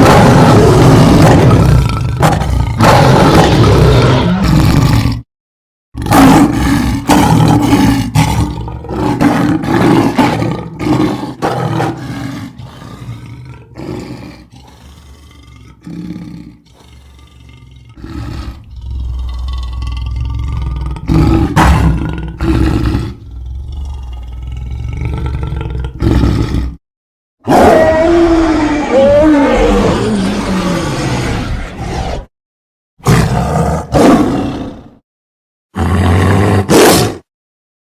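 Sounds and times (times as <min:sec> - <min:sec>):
cartoon lion roaring and growling: 0:00.0 - 0:05.3, 0:06.0 - 0:26.8, 0:27.4 - 0:32.3, 0:33.0 - 0:35.0, 0:35.7 - 0:37.3.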